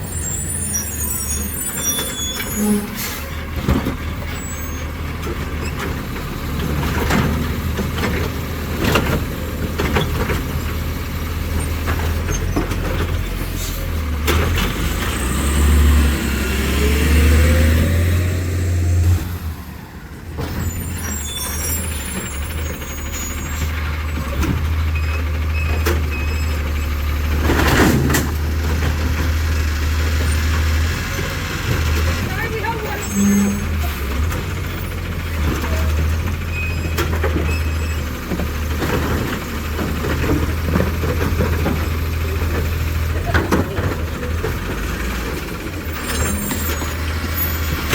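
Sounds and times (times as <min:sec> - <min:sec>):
garbage truck engine revving: 0:00.0 - 0:47.9.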